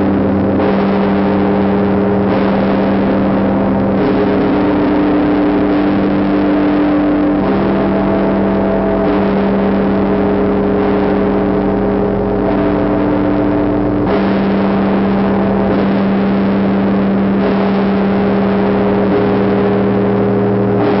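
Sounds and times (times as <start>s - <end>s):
deep church bell tolling: 0.0s - 21.0s.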